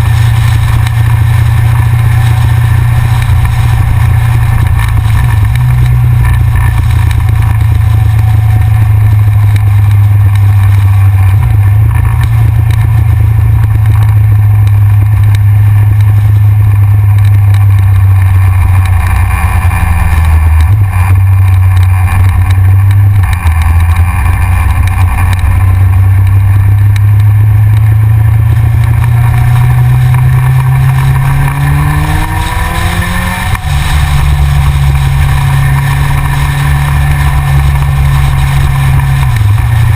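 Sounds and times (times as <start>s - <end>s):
motorcycle engine cruising: 0.0s - 39.9s
wind rush over camera: 0.0s - 39.9s.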